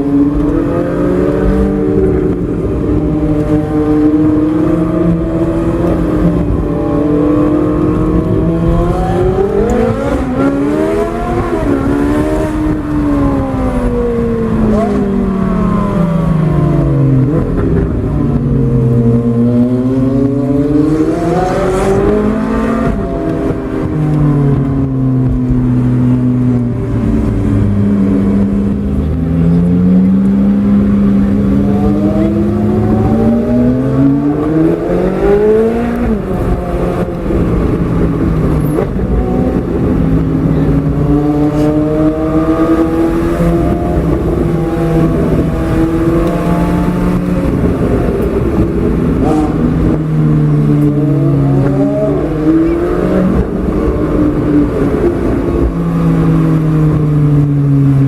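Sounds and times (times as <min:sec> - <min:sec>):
loud sports car engine revving: 0:00.0 - 0:58.0.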